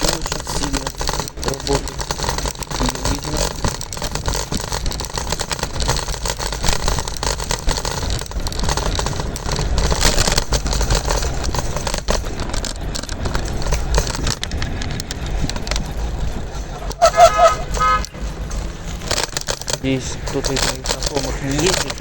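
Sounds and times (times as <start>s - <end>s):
scooter wheels rumbling on pavement: 0.0s - 22.0s
wind buffeting microphone: 0.0s - 22.0s.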